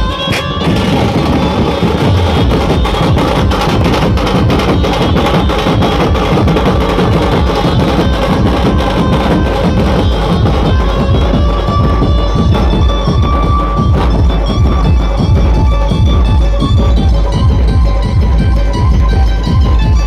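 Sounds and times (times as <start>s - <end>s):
fast loud drumming: 0.0s - 20.0s
melody over drums: 0.0s - 20.0s.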